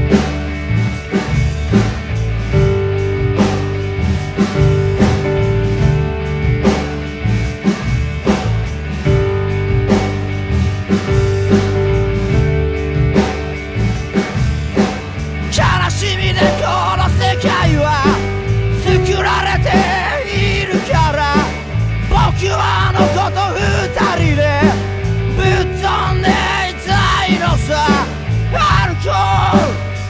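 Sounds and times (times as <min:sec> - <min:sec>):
garage rock band playing: 0:00.0 - 0:30.0.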